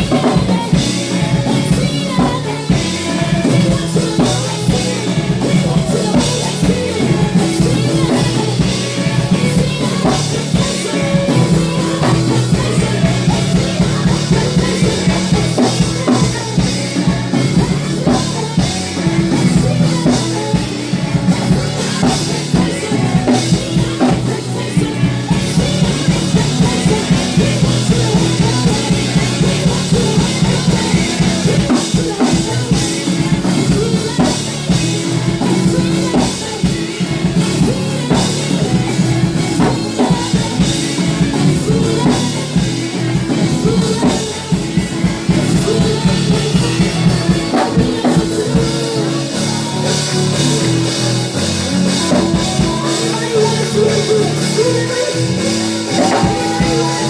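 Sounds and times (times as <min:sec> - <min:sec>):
drum-kit beat: 0:00.0 - 0:57.0.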